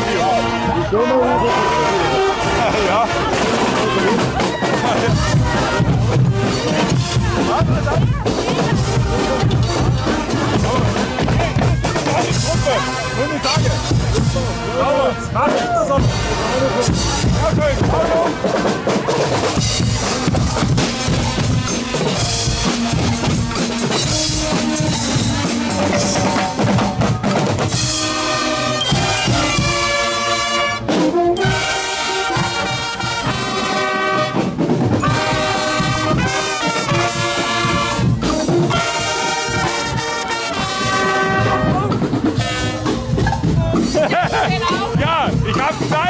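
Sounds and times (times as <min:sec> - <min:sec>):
brass band with drums playing: 0:00.0 - 0:46.0.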